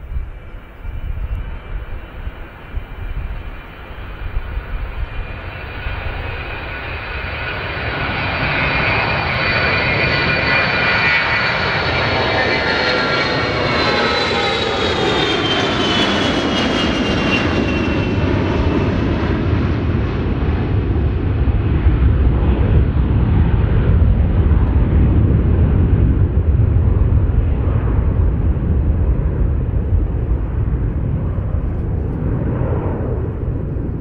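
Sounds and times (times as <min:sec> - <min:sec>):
jet aircraft engines roaring: 0:00.0 - 0:34.0.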